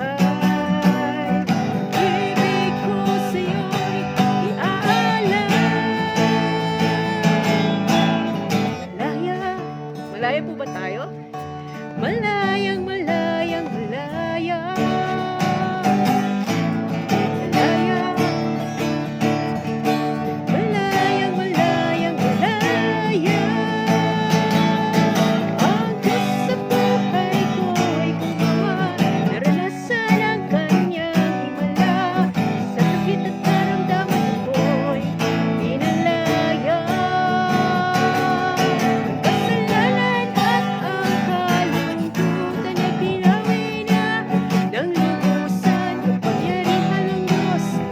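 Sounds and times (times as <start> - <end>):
person singing: 0.0 - 47.9
strummed acoustic guitar: 0.0 - 47.9.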